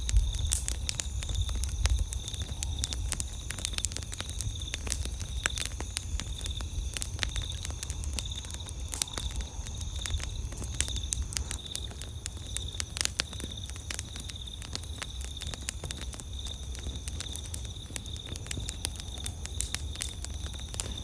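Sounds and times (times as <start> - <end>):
campfire crackling and popping: 0.0 - 21.0
night insects chirping: 0.0 - 21.0.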